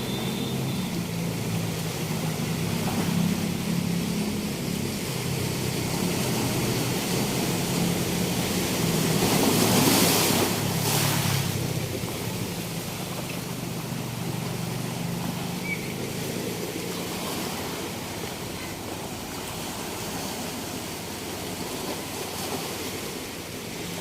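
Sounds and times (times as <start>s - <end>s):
sea waves washing on beach: 0.0s - 24.0s.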